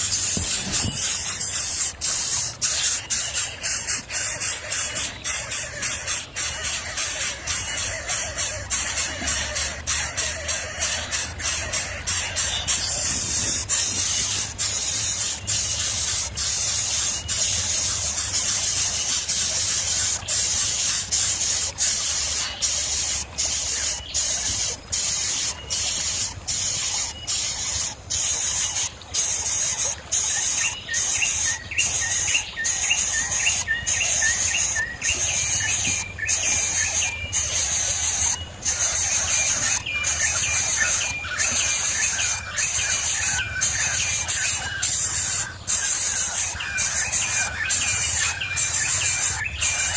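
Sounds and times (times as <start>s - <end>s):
bird chirping: 0.0s - 24.7s, 29.8s - 49.9s.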